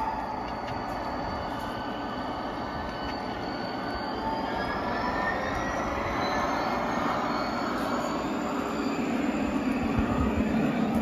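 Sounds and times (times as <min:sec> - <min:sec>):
faint high-pitched wheel squeals: 0:00.0 - 0:11.0
model train wheels rumbling on rails: 0:00.0 - 0:11.0.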